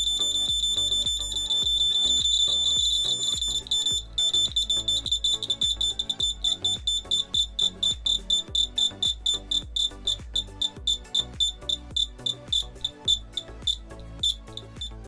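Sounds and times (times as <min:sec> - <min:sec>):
piezo buzzer high-pitched beeping: 0:00.0 - 0:15.0.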